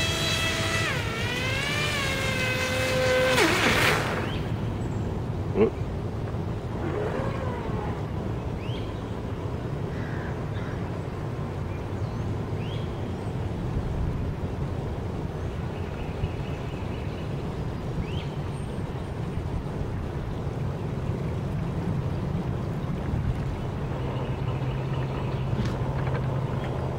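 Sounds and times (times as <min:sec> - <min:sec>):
faint high motor whine: 0:00.0 - 0:26.9
low outdoor rumble: 0:00.0 - 0:26.9.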